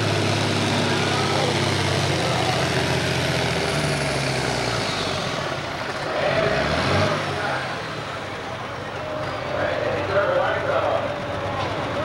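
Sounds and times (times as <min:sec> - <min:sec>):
tractor diesel engine at full throttle: 0:00.0 - 0:12.0.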